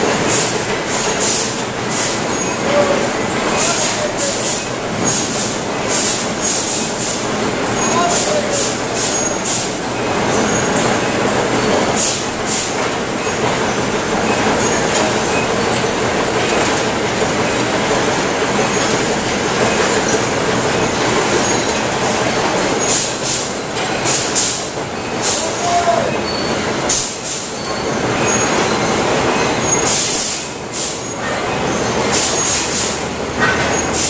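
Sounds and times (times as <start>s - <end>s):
conveyor machinery din: 0.0s - 34.0s.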